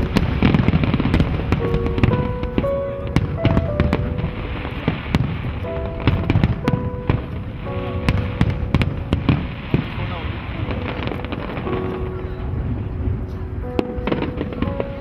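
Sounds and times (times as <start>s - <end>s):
fireworks bangs and crackling pops: 0.0s - 15.0s
music playing: 0.0s - 15.0s.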